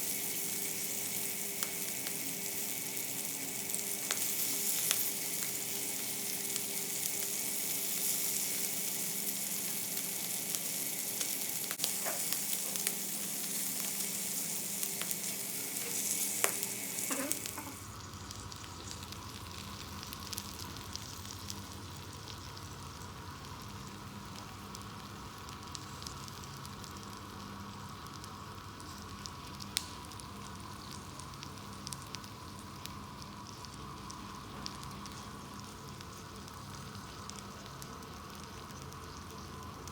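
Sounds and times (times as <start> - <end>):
meat and vegetables sizzling: 0.0 - 39.9.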